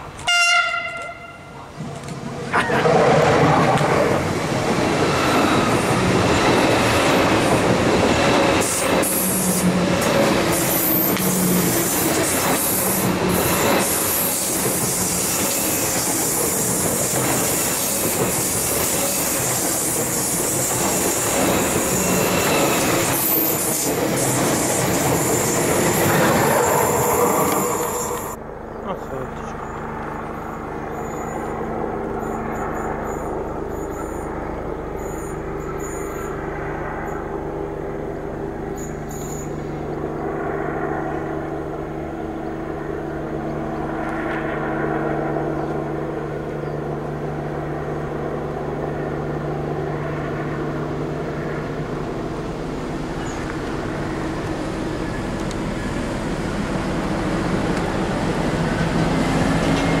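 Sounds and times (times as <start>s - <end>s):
diesel train engine drone: 0.0s - 60.0s.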